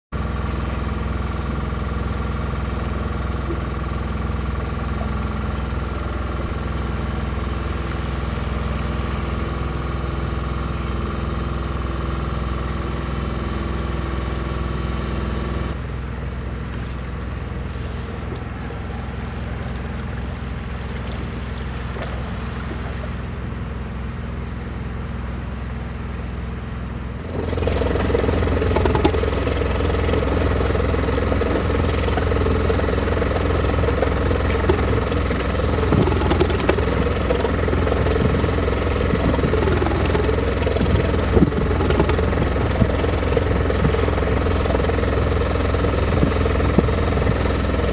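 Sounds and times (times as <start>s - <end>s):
motorboat engine idling: 0.2s - 47.9s.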